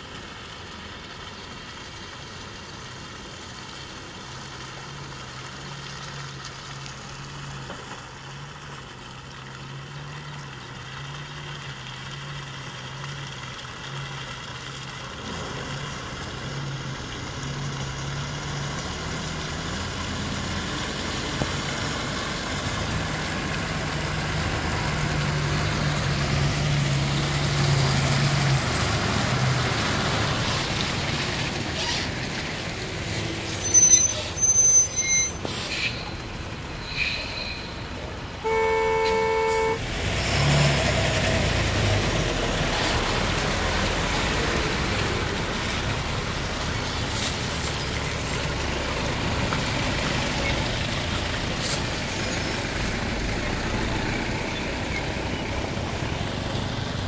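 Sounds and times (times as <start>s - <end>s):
truck diesel engines droning: 0.0s - 57.0s.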